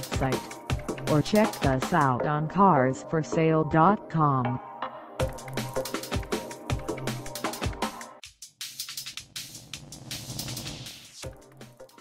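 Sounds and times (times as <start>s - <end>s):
electronic music with drum beat: 0.0s - 3.8s, 5.2s - 12.0s.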